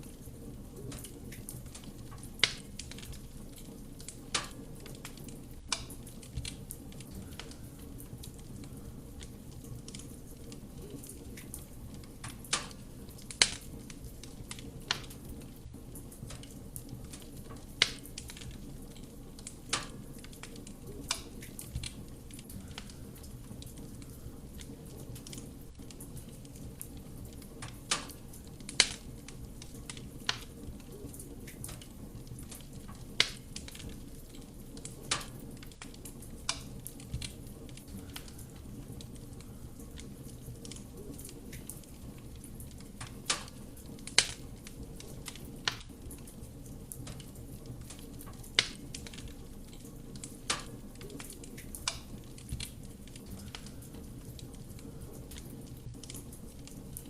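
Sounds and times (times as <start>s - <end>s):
burning wood popping and crackling: 0.0s - 57.0s.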